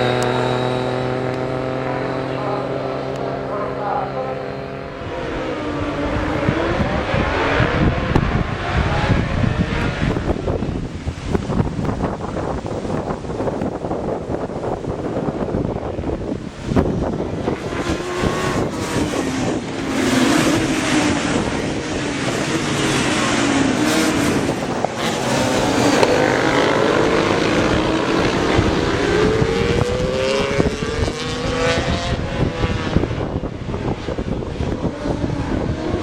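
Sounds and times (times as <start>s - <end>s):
racing motorcycle engines: 0.0s - 36.0s.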